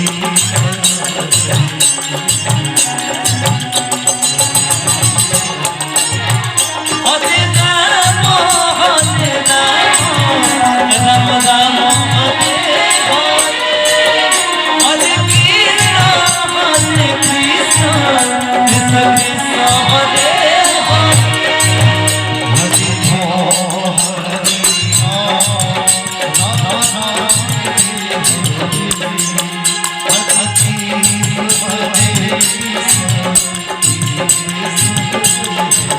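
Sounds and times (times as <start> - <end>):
jangling shaken percussion: 0.0 - 35.9
voices singing: 5.2 - 35.9.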